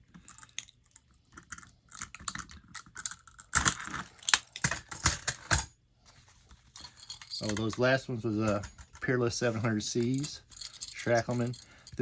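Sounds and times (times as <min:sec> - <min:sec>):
handcuffs clicking and rattling: 0:00.2 - 0:05.7, 0:06.8 - 0:12.0.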